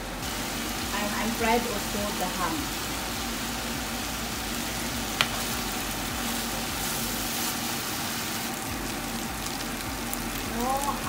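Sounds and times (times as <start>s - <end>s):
ham sizzling in a pan: 0.0s - 11.0s.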